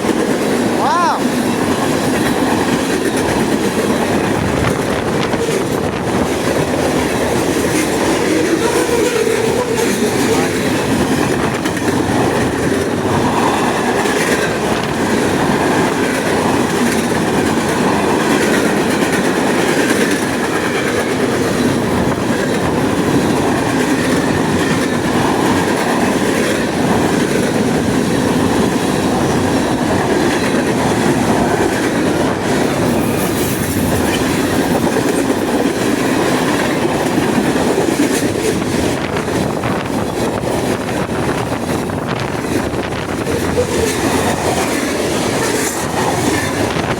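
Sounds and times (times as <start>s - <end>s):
freight train rolling past: 0.0s - 46.9s
steel wheels rattling on rails: 0.0s - 46.9s.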